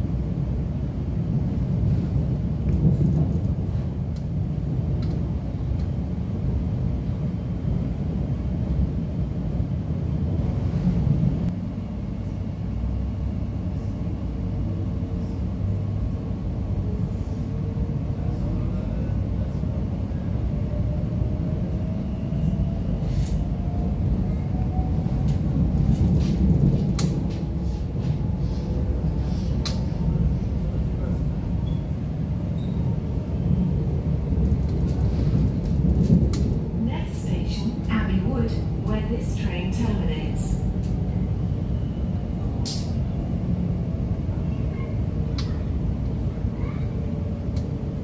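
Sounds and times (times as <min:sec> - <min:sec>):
train interior rumble: 0:00.0 - 0:48.0.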